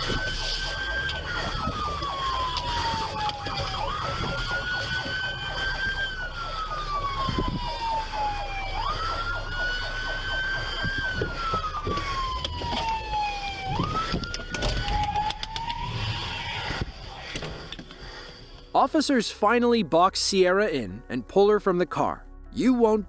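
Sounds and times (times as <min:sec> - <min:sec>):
police siren wailing: 0:00.0 - 0:18.8.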